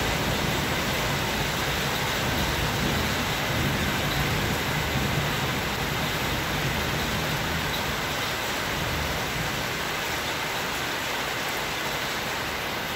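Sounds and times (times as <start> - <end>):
road traffic rumble: 0.0 - 12.9
steady rain falling: 0.0 - 12.9.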